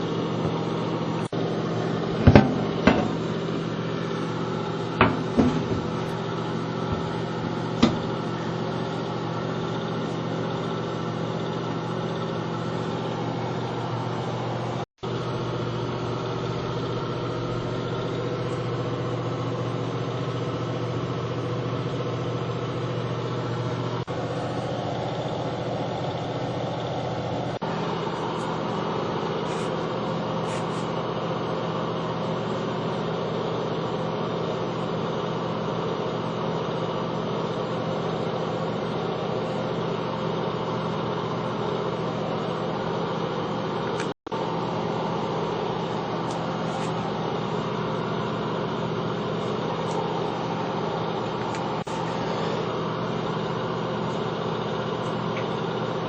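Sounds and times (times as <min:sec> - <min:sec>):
machine humming: 0:00.0 - 0:32.5, 0:36.4 - 0:56.0.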